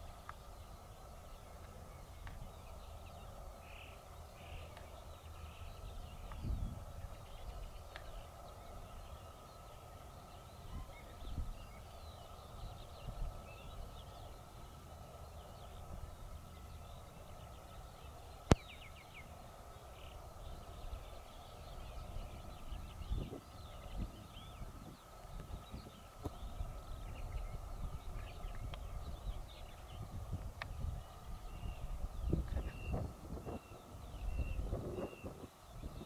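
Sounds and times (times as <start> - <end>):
birds chirping: 0.0 - 36.0
steady faint tone: 0.0 - 36.0.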